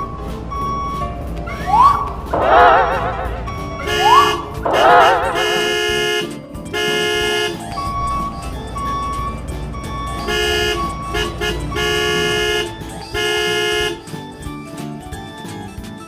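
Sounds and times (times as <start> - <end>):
electronic horn-like beep: 0.0 - 14.1
cheerful background music: 0.0 - 16.0.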